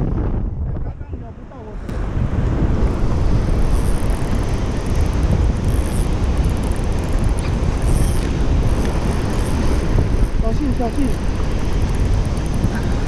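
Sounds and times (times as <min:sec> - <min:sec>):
wind buffeting microphone: 0:00.0 - 0:13.0
sea surf: 0:01.4 - 0:13.0.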